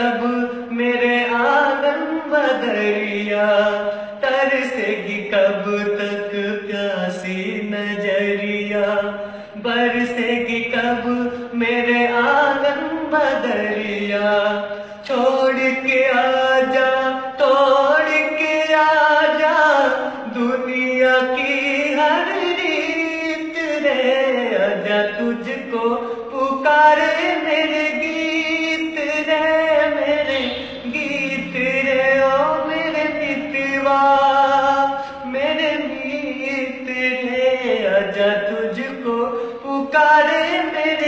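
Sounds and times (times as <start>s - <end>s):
man singing slow song: 0.0s - 41.0s.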